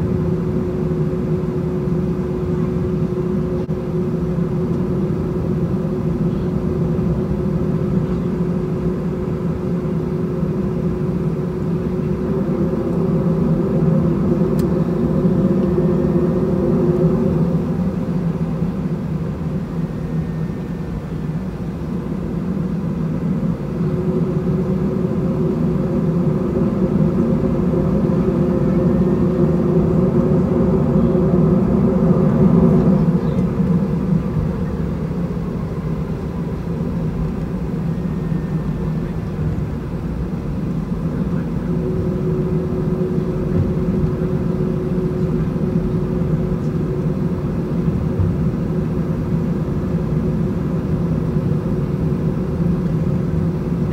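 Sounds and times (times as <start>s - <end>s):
aircraft cabin engine rumble: 0.0s - 53.9s.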